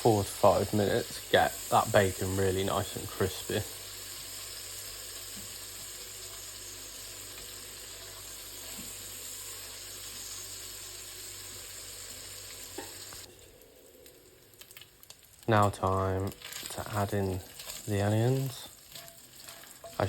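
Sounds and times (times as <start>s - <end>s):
bacon sizzling in a pan: 0.0s - 20.0s.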